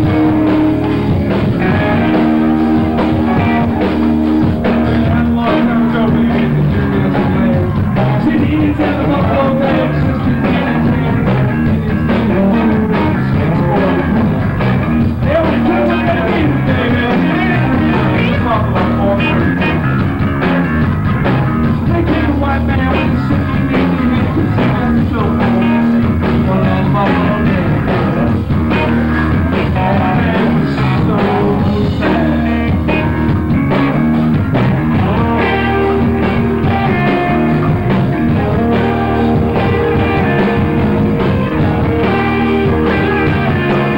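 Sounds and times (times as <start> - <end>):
electric guitar: 0.0 - 43.9
live rock band playing: 0.0 - 43.9
singing into microphones: 1.2 - 14.4, 15.2 - 19.9, 21.8 - 28.5, 29.4 - 33.1, 34.8 - 43.9.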